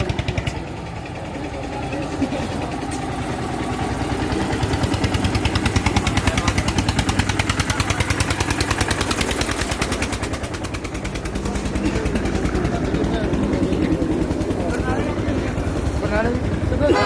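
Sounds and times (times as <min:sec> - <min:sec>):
engine thudding rapidly: 0:00.0 - 0:17.0.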